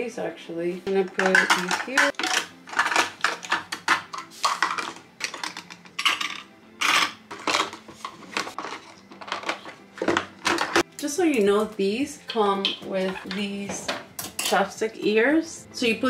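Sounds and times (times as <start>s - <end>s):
jar lids and plastic cups clinking: 0.9s - 11.5s, 12.2s - 14.7s.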